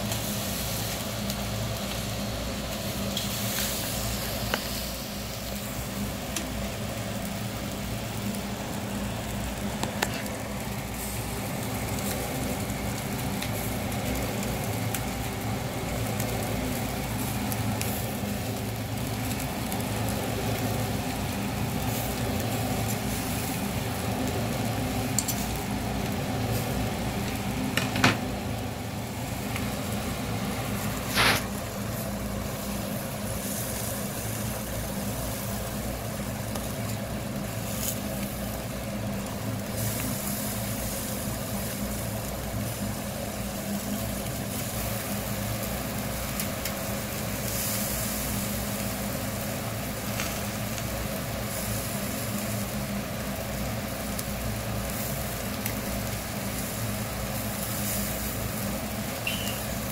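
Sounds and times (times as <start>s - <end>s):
eel sizzling on a grill: 0.0s - 59.9s
steady low hum: 0.0s - 59.9s.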